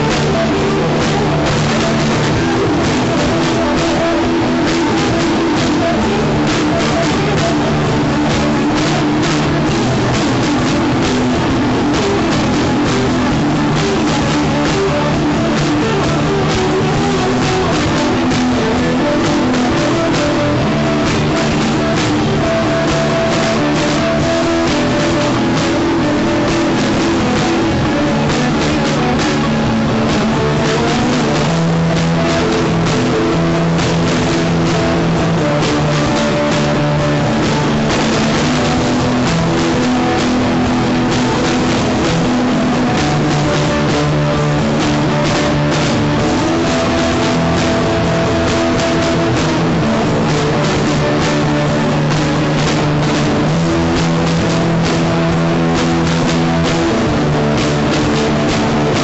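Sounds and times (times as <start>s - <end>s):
drum kit playing: 0.0s - 59.0s
electric guitar: 0.0s - 59.0s.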